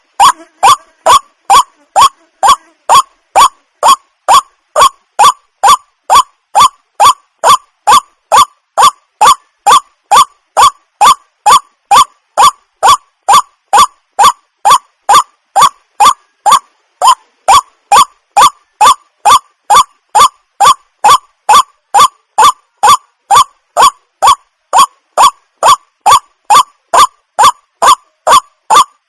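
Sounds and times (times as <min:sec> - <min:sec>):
waterhen harsh calls: 0:00.0 - 0:28.9.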